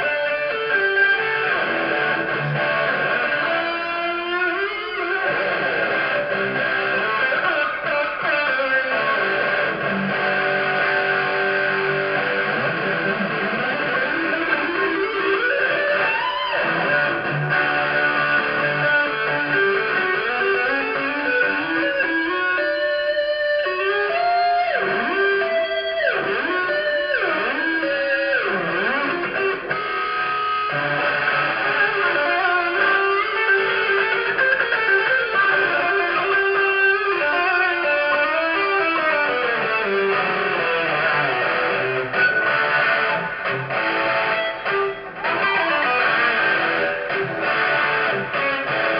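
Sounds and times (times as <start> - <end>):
electric guitar solo: 0.0 - 48.9.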